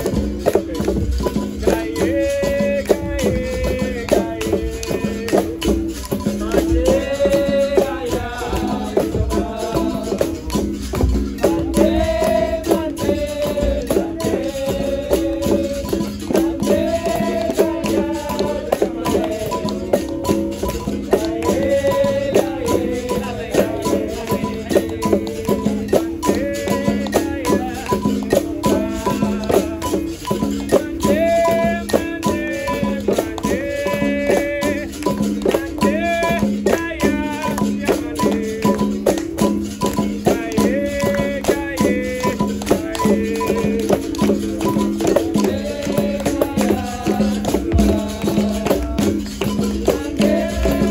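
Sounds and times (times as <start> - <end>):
berimbau: 0.0 - 50.9
hand percussion: 0.0 - 50.9
shaker rattle: 0.0 - 50.9
voices singing: 0.0 - 50.9.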